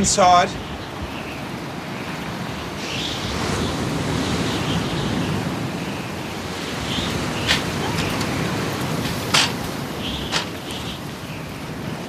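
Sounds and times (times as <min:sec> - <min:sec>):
rushing outdoor ambience: 0:00.0 - 0:12.0.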